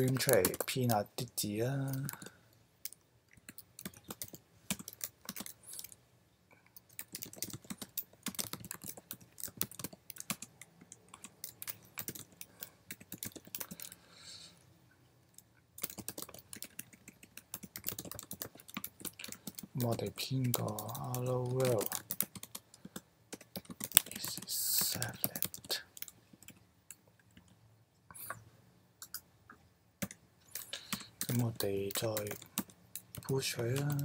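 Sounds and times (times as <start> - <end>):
computer keyboard typing: 0.0 - 6.0, 6.7 - 14.0, 15.4 - 27.6, 29.0 - 29.3, 30.0 - 34.0.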